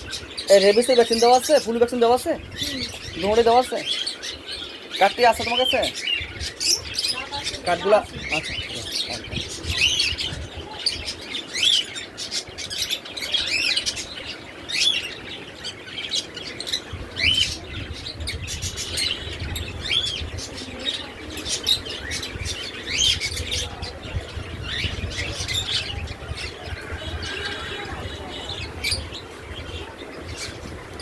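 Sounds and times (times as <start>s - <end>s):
caged birds chirping: 0.0s - 31.0s.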